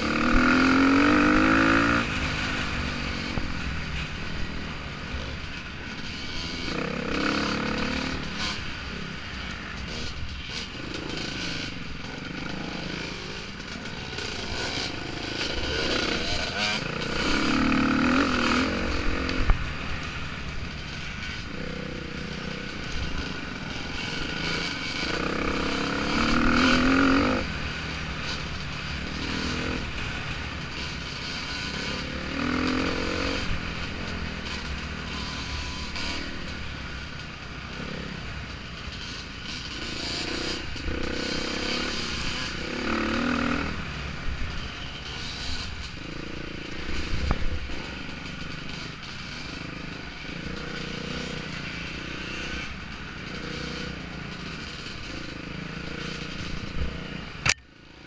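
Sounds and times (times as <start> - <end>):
dirt bike engine revving: 0.0 - 57.6.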